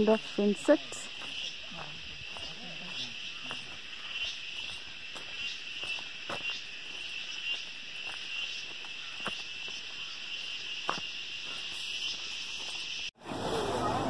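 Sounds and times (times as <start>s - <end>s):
insects buzzing: 0.0s - 13.1s.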